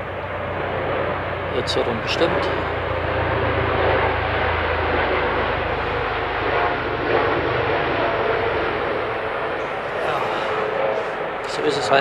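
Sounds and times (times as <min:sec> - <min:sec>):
helicopter flying over: 0:00.0 - 0:12.0.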